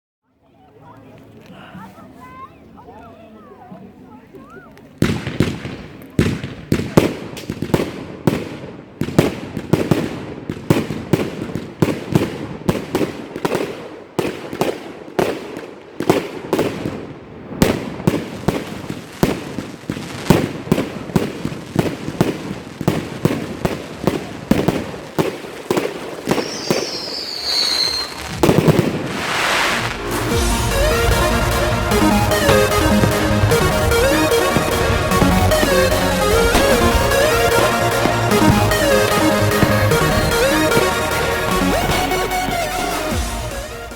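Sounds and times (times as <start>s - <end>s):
firework shots: 5.0s - 43.9s.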